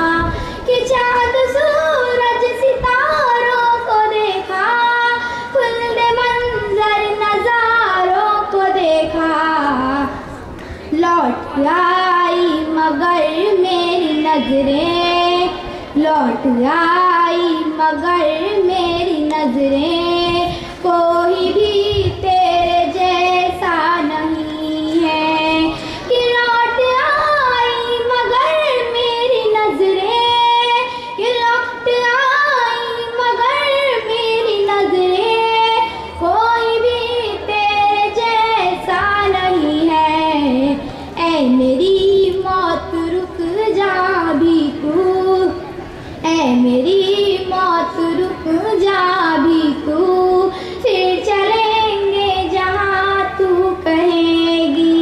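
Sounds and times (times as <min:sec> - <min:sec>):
girl singing unaccompanied: 0:00.0 - 0:55.0.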